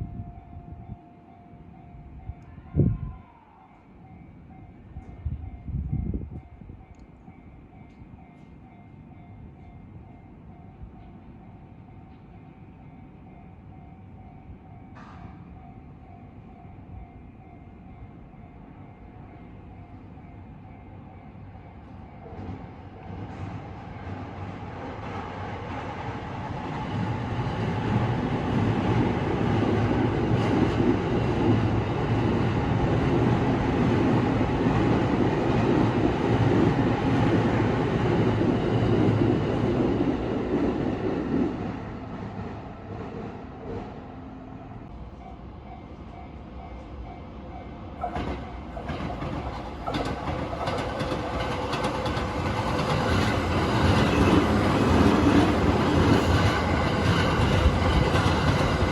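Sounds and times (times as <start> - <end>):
electric train rumbling over rails: 0.0 - 58.9.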